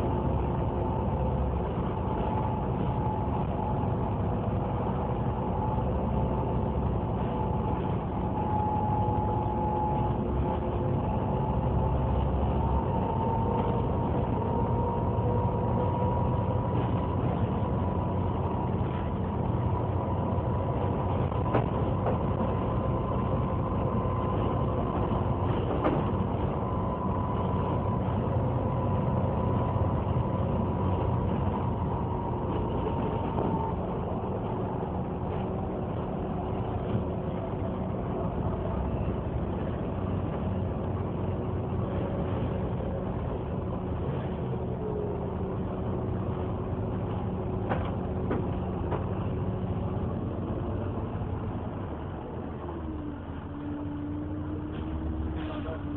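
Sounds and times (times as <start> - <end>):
cooling fan whining: 0.0 - 55.9
diesel engine idling: 0.0 - 55.9.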